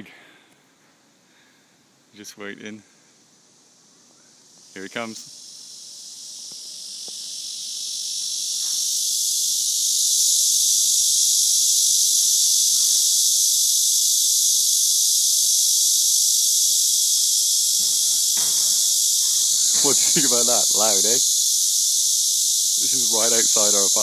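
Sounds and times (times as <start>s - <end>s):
cicada buzzing: 2.9s - 24.0s.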